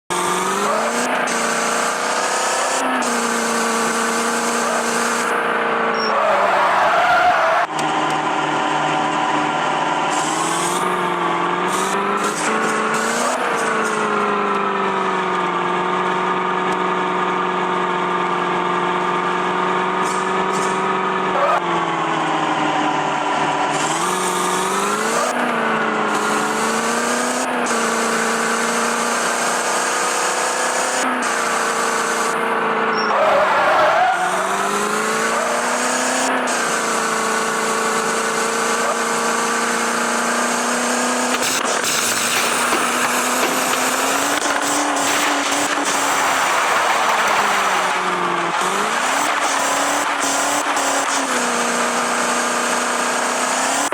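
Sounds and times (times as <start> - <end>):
van engine at high revs: 0.0 - 53.9.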